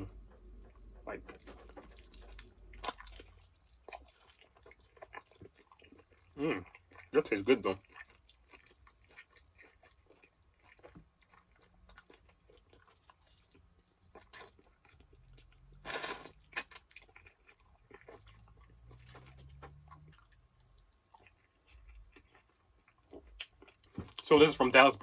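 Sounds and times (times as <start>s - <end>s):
chewing and biting chicken wings: 0.4s - 24.3s.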